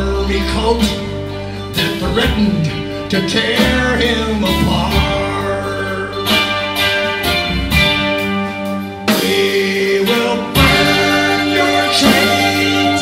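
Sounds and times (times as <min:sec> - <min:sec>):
live band playing instrumental: 0:00.0 - 0:13.0
sustained guitar notes: 0:00.0 - 0:13.0.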